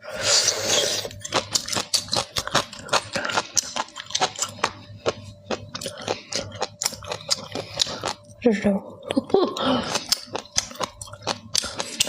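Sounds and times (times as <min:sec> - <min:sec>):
crunching while eating: 0:00.1 - 0:08.4, 0:09.1 - 0:12.0.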